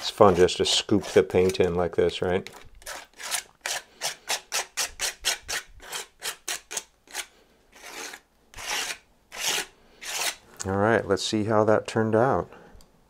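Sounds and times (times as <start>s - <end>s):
palette knife scraping paint: 0.0s - 10.5s.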